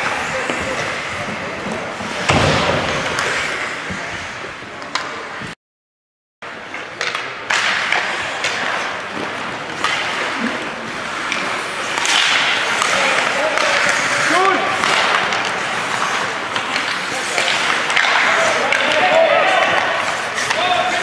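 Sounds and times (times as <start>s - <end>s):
crowd and rink noise: 0.0s - 5.6s, 6.4s - 21.0s
hockey sticks knocking: 0.0s - 5.6s, 6.5s - 21.0s.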